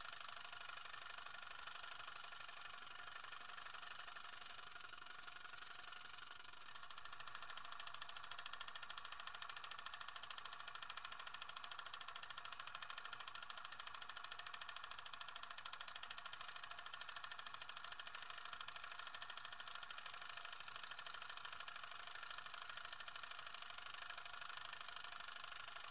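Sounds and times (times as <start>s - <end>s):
film projector clattering: 0.0s - 25.9s.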